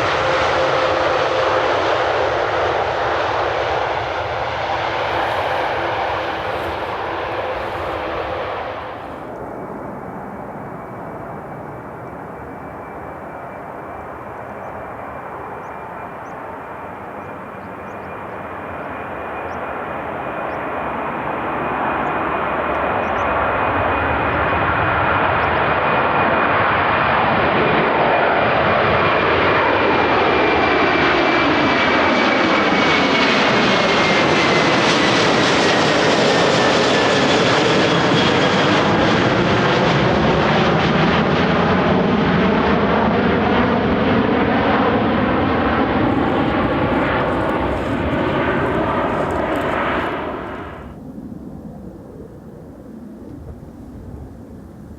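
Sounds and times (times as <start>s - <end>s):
jet airliner passing overhead: 0.0s - 54.9s.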